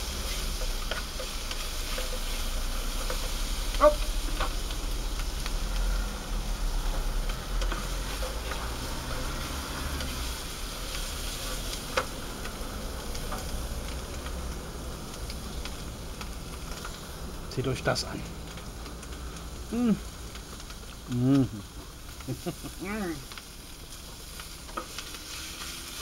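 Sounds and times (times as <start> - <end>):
sausage sizzling in a frying pan: 0.0 - 26.0.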